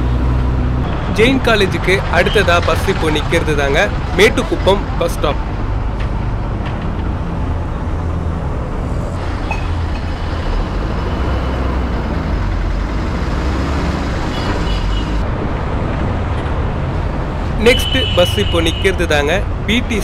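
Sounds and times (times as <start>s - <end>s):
bus engine rumble: 0.0s - 17.8s
road noise: 0.0s - 20.0s.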